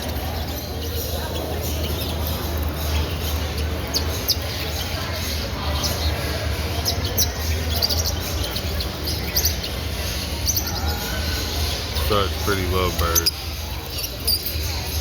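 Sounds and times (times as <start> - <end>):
people chattering: 0.0 - 15.0
small cage birds chirping: 0.0 - 15.0.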